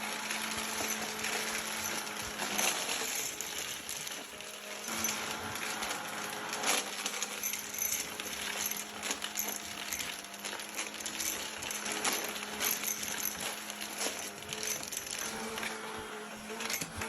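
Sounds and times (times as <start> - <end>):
debris clicking and rattling: 0.0 - 15.8, 16.5 - 17.0
vacuum cleaner running: 0.0 - 17.0.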